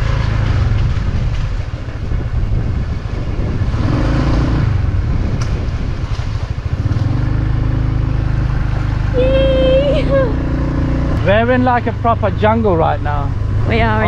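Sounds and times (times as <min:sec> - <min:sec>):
wind rumbling on microphone: 0:00.0 - 0:11.9
motorbike engine running: 0:00.0 - 0:14.0.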